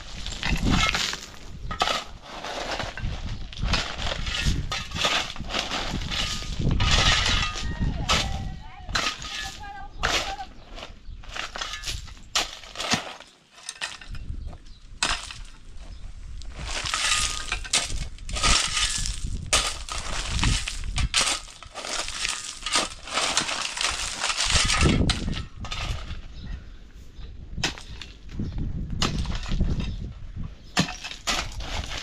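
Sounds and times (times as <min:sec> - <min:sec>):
shovel scraping gravel: 0:00.0 - 0:14.2, 0:15.0 - 0:15.7, 0:16.4 - 0:26.2, 0:30.8 - 0:32.0.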